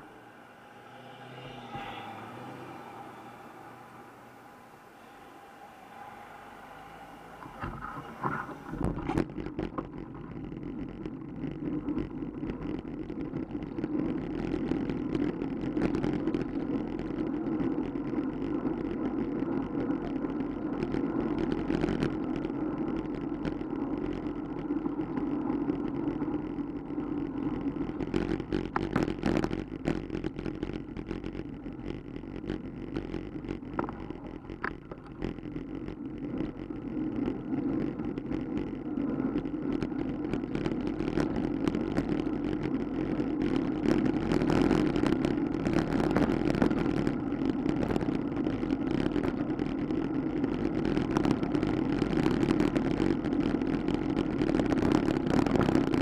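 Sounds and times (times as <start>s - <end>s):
road rumble: 0.0s - 56.0s
wind rushing on microphone: 0.0s - 56.0s.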